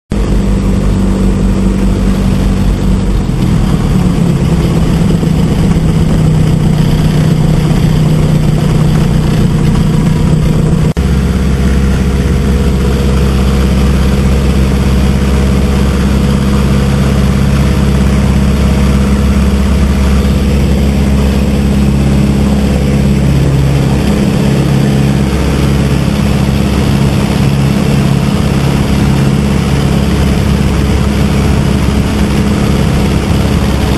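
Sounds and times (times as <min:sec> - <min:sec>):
airplane engine at takeoff power: 0:00.1 - 0:33.9
propeller and wind noise: 0:00.1 - 0:33.9.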